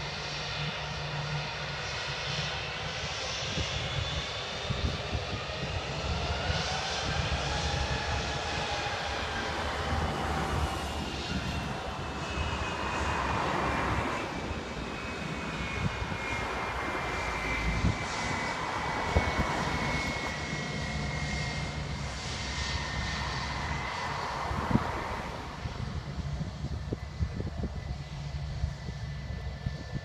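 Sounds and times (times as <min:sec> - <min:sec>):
jet engines whining and rumbling: 0:00.0 - 0:30.0.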